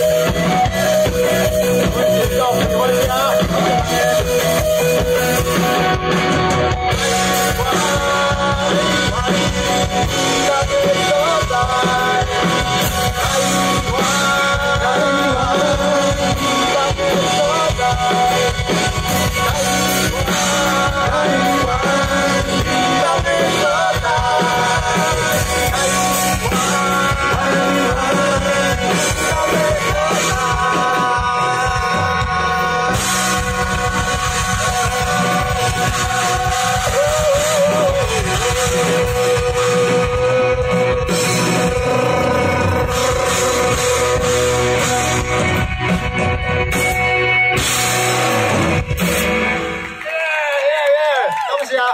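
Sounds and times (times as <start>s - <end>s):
drum kit steady beat: 0.0s - 50.3s
live rock band playing: 0.0s - 51.5s.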